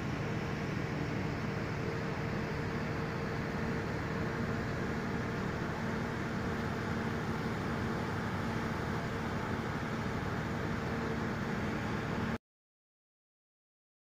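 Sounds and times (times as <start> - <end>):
constant low hum: 0.0 - 12.4
outdoor rumble and hiss: 0.0 - 12.4.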